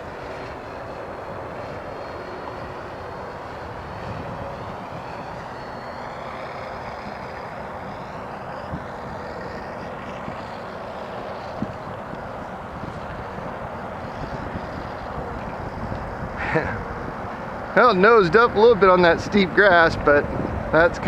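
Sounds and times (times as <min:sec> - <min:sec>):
faint high whine: 0:00.0 - 0:21.0
model plane motor and propeller drone: 0:00.0 - 0:21.0.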